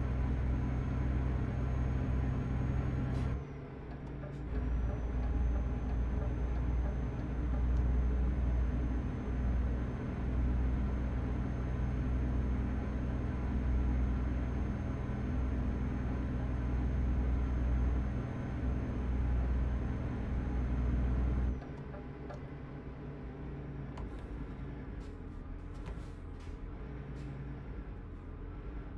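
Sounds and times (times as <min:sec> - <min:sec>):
truck engine and road noise: 0:00.0 - 0:28.9.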